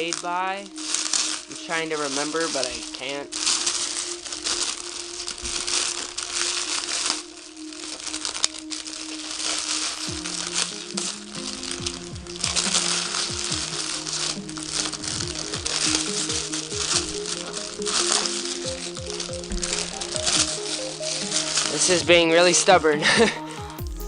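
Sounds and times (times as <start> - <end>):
plastic packaging crinkling: 0.0 - 23.2
music playing: 0.0 - 24.0.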